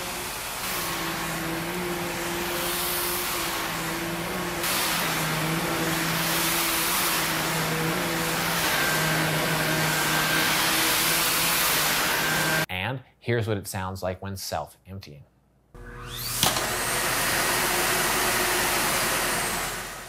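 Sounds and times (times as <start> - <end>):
stick vacuum running on carpet: 0.0 - 12.6, 15.8 - 20.0.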